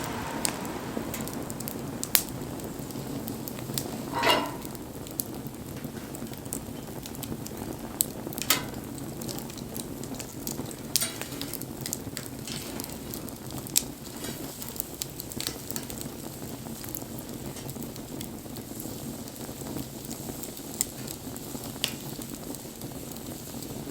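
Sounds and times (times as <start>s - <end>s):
bonfire crackling and popping: 0.0s - 23.9s.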